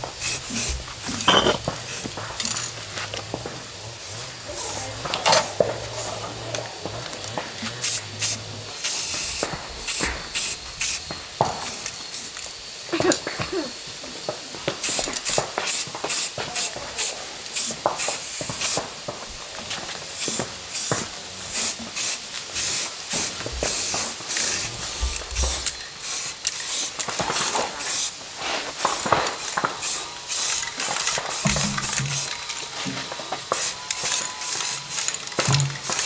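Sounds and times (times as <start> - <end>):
hissing spray from a nozzle: 0.0 - 36.0.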